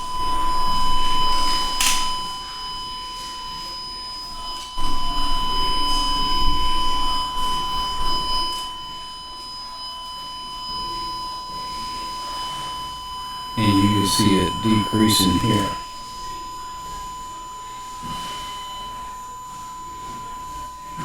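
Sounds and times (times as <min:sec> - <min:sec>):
continuous test tone beep: 0:00.0 - 0:21.0.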